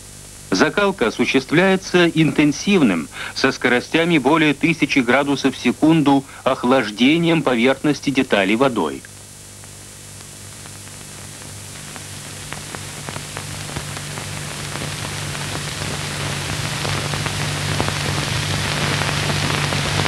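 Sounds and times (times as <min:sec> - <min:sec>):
crackles: 0:00.0 - 0:20.0
film soundtrack hiss: 0:00.0 - 0:20.0
steady mains hum: 0:00.0 - 0:20.0.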